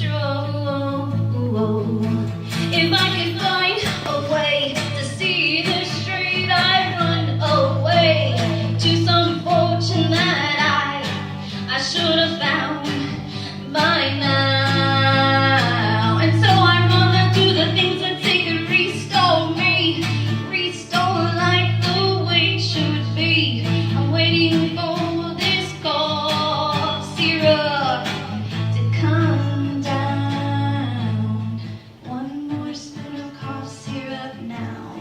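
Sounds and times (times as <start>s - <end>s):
guitar: 0.0s - 35.0s
woman singing: 0.0s - 35.0s.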